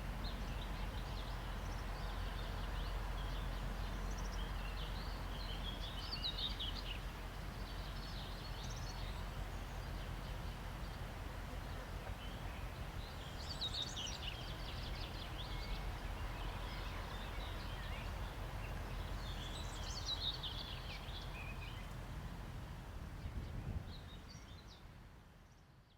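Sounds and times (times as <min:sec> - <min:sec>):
low background noise: 0:00.0 - 0:25.9.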